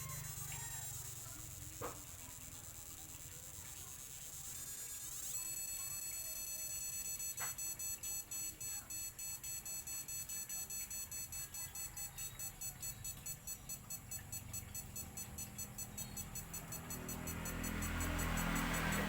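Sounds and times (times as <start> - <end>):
rapid high-pitched electronic beeping: 0.0 - 19.0.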